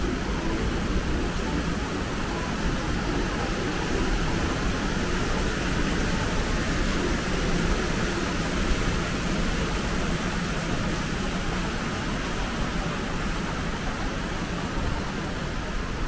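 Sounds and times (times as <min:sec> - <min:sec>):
shopping mall background hiss: 0:00.0 - 0:16.0.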